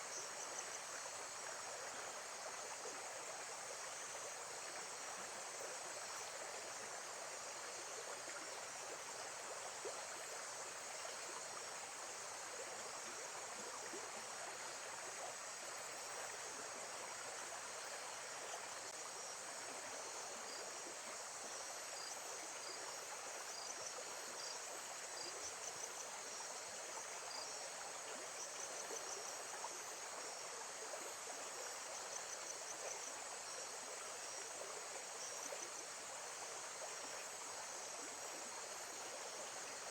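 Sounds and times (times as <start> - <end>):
running water hiss: 0.0 - 39.9.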